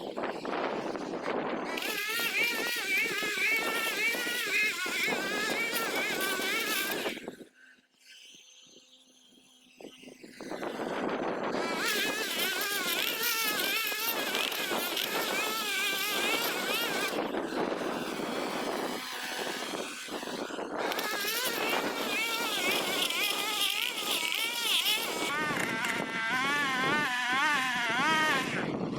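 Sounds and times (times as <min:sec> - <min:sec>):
small petrol engine running hard: 0:00.0 - 0:07.6, 0:08.2 - 0:28.9.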